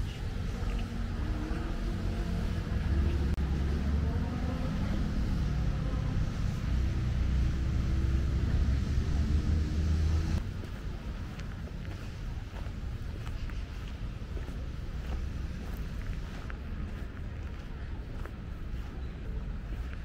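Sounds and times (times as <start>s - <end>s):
faint engine hum: 0.0s - 20.0s
road traffic rumble: 0.0s - 20.0s.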